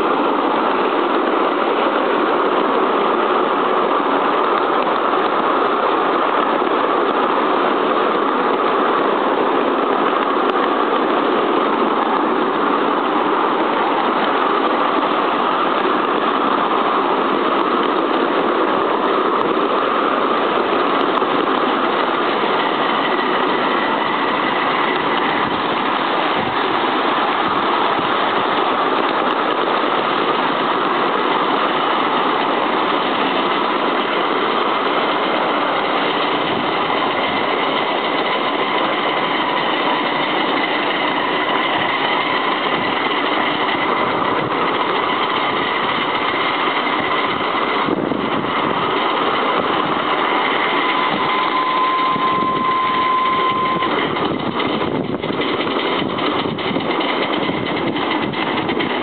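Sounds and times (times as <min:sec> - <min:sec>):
miniature train running on rails: 0:00.0 - 0:59.0.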